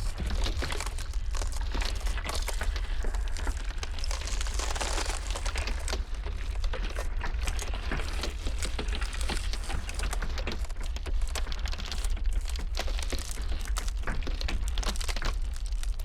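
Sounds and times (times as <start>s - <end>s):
ice cracking: 0.0s - 16.0s.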